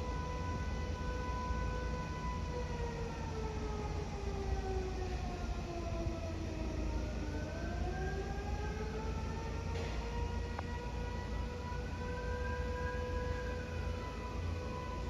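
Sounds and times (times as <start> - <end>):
outdoor warning siren wailing: 0.0 - 15.0.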